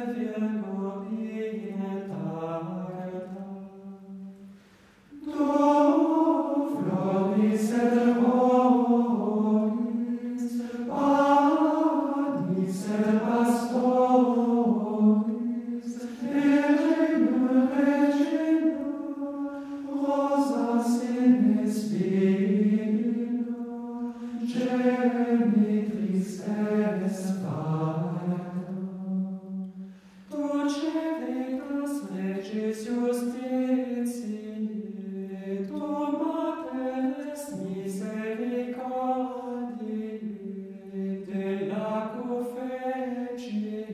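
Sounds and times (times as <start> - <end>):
choral chant over low drone: 5.1 - 43.9.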